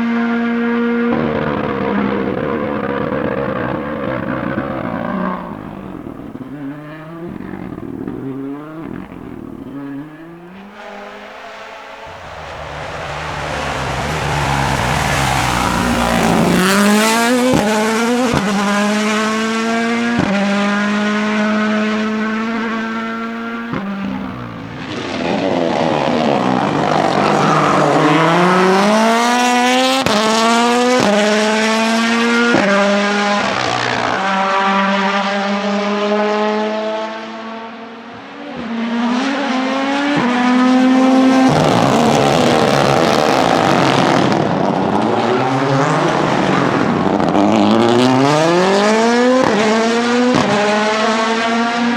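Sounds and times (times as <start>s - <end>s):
car engine accelerating with upshifts: 0.0s - 51.9s.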